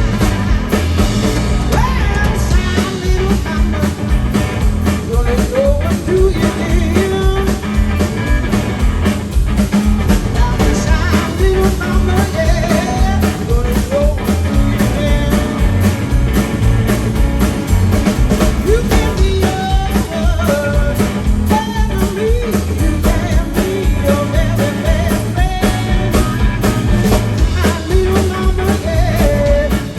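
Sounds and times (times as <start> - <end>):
bass: 0.0 - 29.9
blues band playing: 0.0 - 29.9
drum hits: 0.0 - 29.9.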